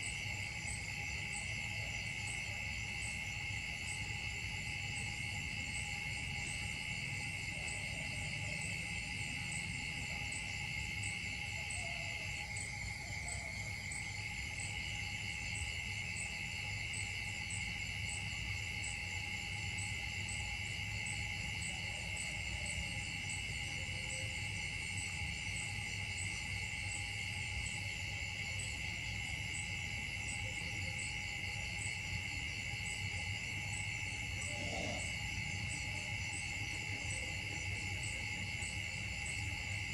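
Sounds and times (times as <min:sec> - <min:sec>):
insect chorus buzzing: 0:00.0 - 0:39.9.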